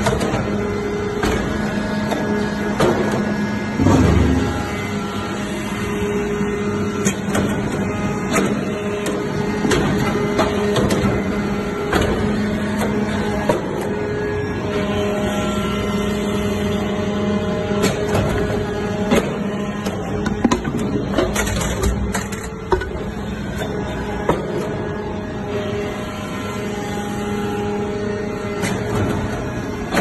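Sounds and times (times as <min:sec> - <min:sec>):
hydraulic power unit hum: 0:00.0 - 0:30.0.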